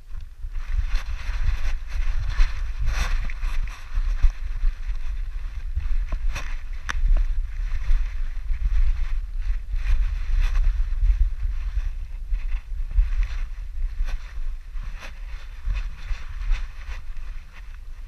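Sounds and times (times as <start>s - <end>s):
rustling rubbing noise: 0.0s - 18.0s
wind rumble on camera: 0.0s - 18.0s.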